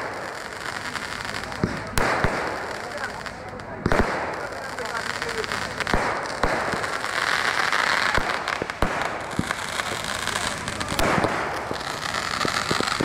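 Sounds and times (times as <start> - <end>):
firework bangs and pops: 0.0 - 13.0
hiss of burning fireworks: 0.0 - 13.0.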